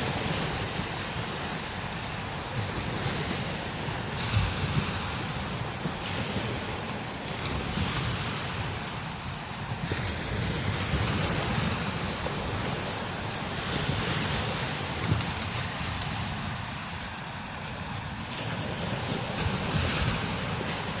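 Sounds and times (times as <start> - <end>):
strong wind gusting: 0.0 - 21.0
wind buffeting microphone: 0.0 - 21.0.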